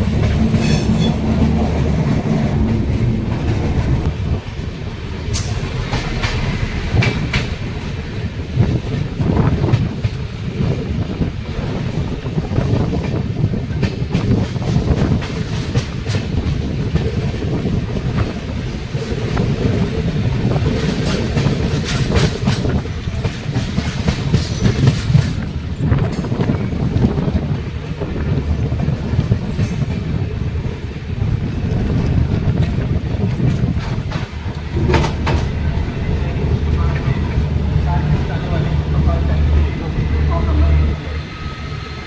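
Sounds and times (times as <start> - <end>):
wheels clacking over rail joints: 0.0 - 10.8, 12.8 - 41.4
train coach rumbling: 0.0 - 42.0.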